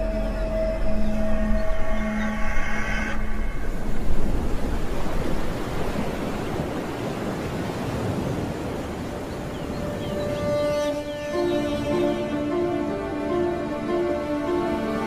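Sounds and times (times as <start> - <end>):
sea surf: 2.4 - 15.0.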